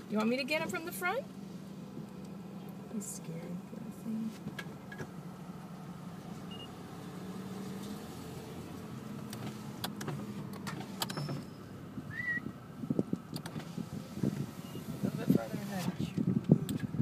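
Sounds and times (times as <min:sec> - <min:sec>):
car cabin low hum: 0:00.0 - 0:17.0.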